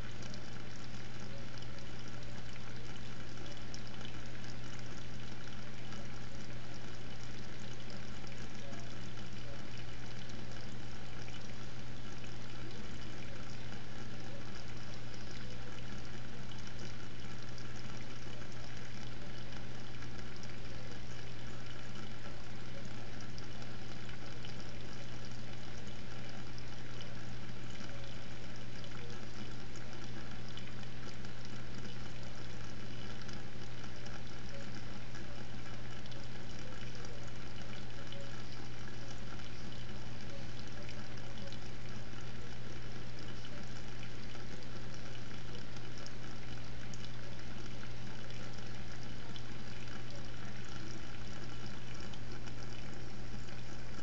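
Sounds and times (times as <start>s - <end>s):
aquarium water circulating: 0.0s - 54.0s
constant low hum: 0.0s - 54.0s.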